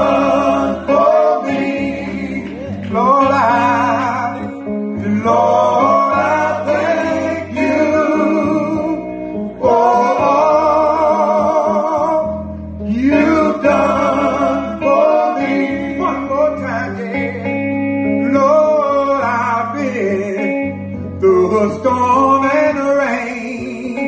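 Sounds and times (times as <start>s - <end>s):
male vocal group singing: 0.0s - 20.6s, 21.2s - 24.0s
guitar and band accompaniment: 0.0s - 24.0s.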